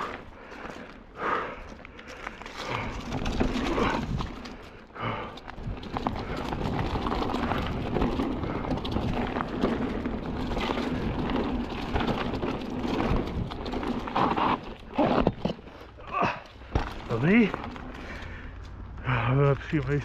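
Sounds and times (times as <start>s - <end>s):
bike chain and frame clattering: 0.0s - 20.0s
bike tyres rolling over dirt: 0.0s - 20.0s.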